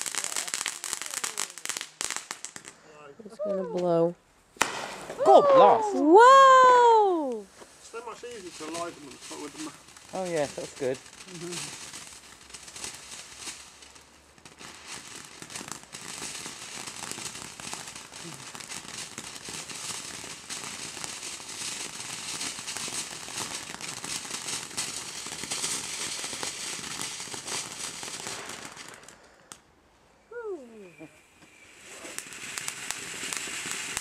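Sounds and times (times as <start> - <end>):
firework crackling: 0.0 - 34.0.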